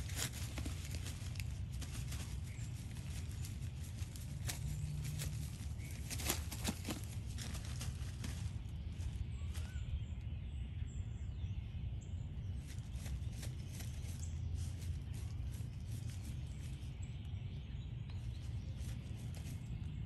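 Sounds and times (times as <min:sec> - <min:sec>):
paws digging through pine needles: 0:00.0 - 0:10.0, 0:12.4 - 0:20.0
low background rumble: 0:00.0 - 0:20.0.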